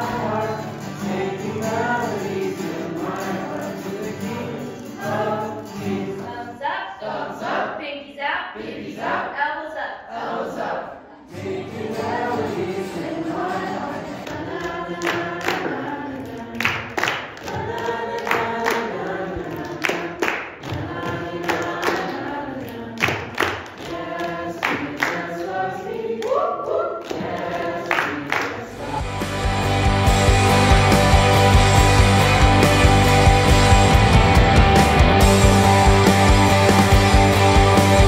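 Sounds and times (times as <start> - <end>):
group of voices singing: 0.0 - 38.0.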